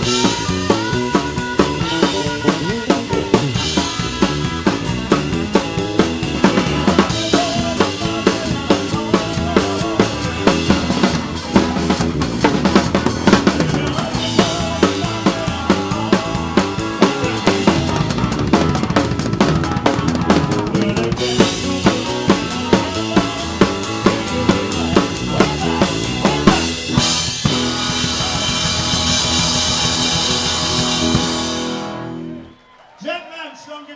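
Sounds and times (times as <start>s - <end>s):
drum kit beat: 0.0s - 32.1s
live rock band playing: 0.0s - 32.6s.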